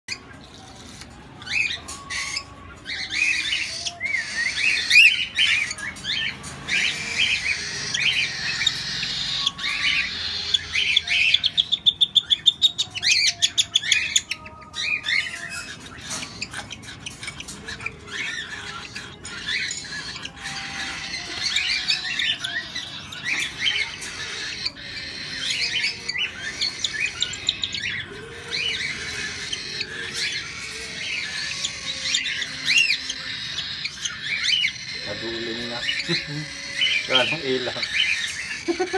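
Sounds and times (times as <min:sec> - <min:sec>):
cockatiels calling: 0:00.1 - 0:38.9.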